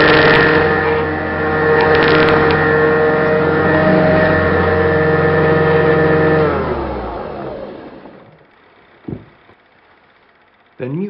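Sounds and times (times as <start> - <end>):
vacuum cleaner motor winding down: 0.0 - 11.0.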